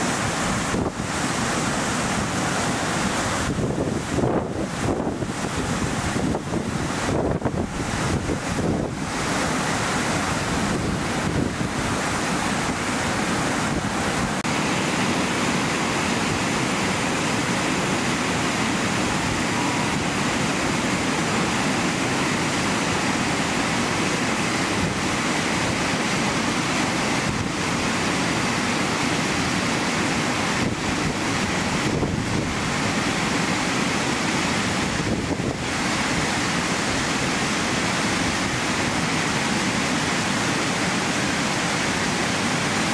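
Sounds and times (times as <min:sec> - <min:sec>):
waterfall rushing over rocks: 0:00.0 - 0:42.9.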